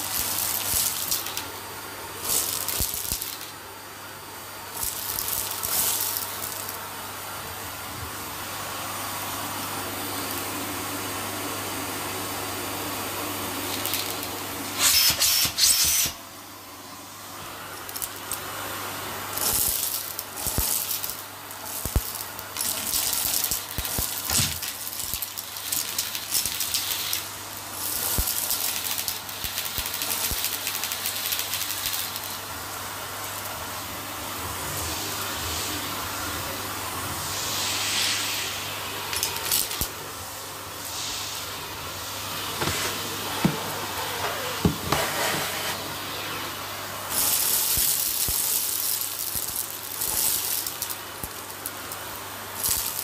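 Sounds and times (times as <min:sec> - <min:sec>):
vacuum cleaner sucking: 0:00.0 - 0:53.0.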